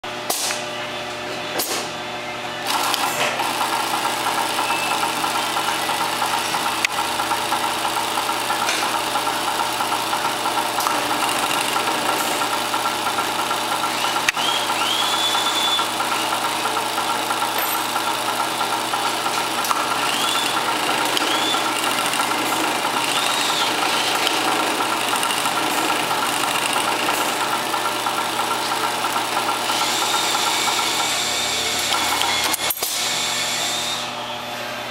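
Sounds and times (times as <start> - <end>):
sewing machine stitching: 2.6 - 33.0.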